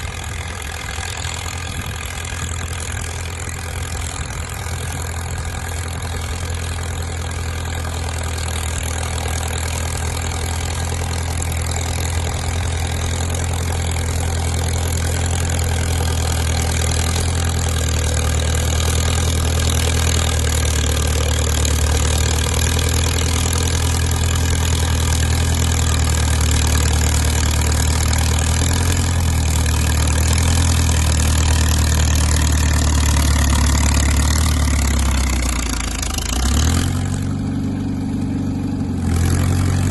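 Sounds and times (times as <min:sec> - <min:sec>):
dozer diesel engine humming: 0:00.0 - 0:39.9.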